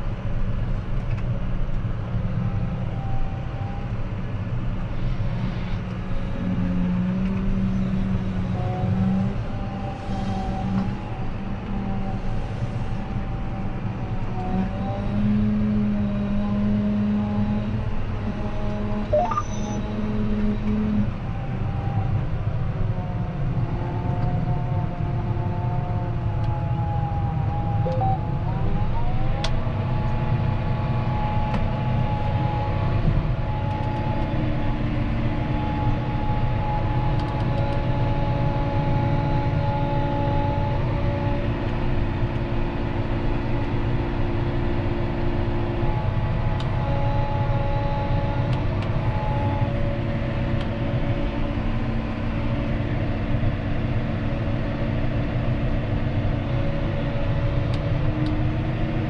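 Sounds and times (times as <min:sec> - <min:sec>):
diesel tractor engine rumbling: 0:00.0 - 0:23.7, 0:25.7 - 0:59.0.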